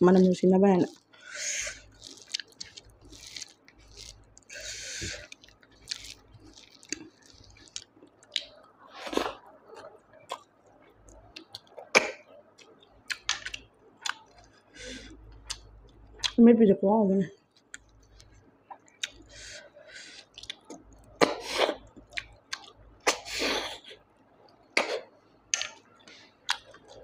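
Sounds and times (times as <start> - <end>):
wet chewing mouth sounds: 0.8 - 16.4, 17.5 - 23.8, 24.8 - 27.0.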